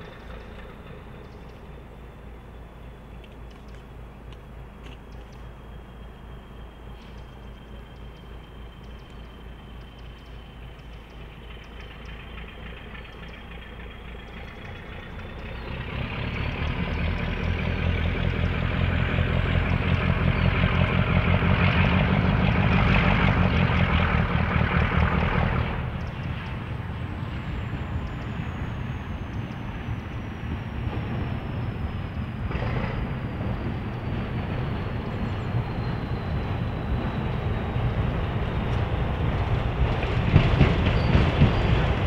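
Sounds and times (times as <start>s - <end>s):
diesel locomotive engine: 0.0s - 42.0s.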